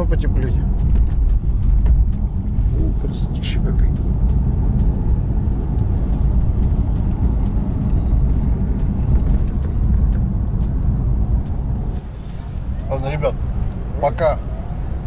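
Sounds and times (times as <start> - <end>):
low engine rumble: 0.0 - 15.0
road noise inside car: 0.0 - 15.0.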